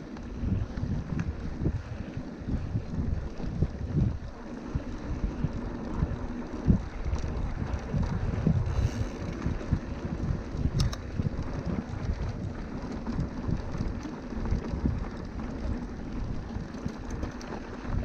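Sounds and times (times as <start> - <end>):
bike rolling over dirt trail: 0.0 - 18.0
wind on microphone: 0.0 - 18.0.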